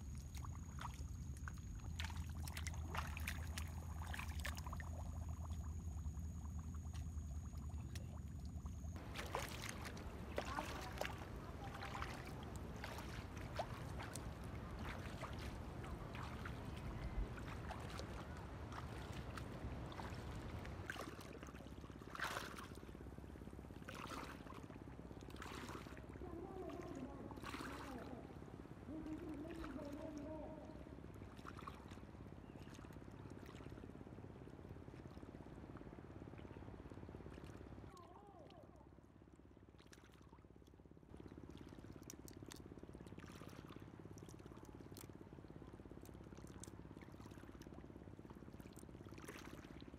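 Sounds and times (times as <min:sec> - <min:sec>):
feet wading through water: 0:00.0 - 0:35.2, 0:39.8 - 0:40.4, 0:41.1 - 0:49.9.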